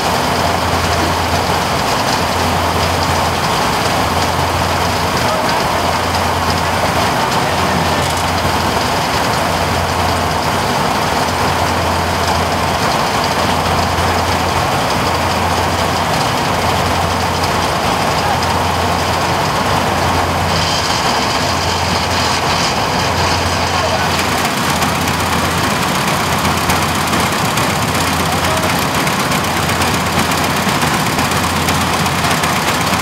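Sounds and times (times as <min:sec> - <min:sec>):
auger pouring rice: 0:00.0 - 0:33.0
combine harvester running: 0:00.0 - 0:33.0.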